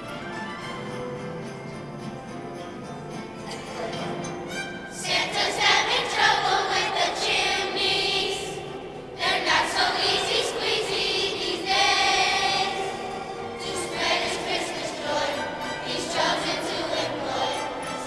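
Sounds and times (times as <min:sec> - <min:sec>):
children's choir singing: 0:03.5 - 0:18.0.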